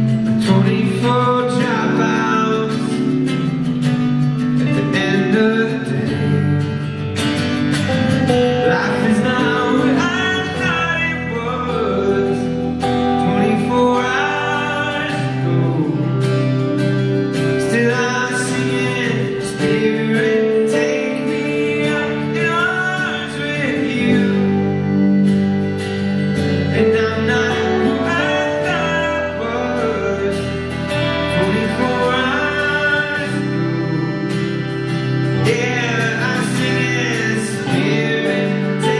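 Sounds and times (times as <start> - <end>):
live rock band playing: 0.0 - 38.9
man singing: 0.0 - 38.9.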